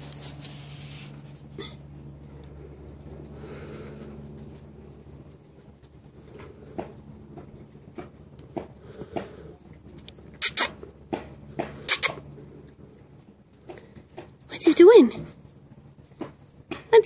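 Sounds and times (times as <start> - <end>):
kitten paws tapping and scratching: 0.0 - 17.0.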